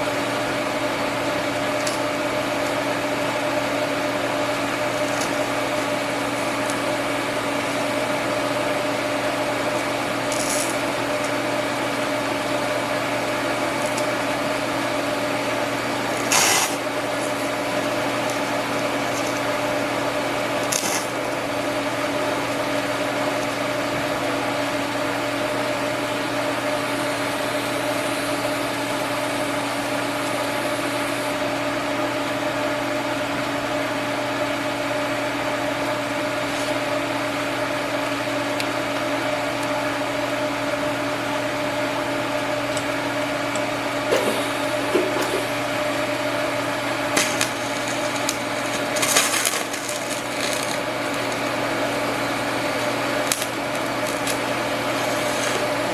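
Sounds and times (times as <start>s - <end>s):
electric machine hum: 0.0s - 55.9s.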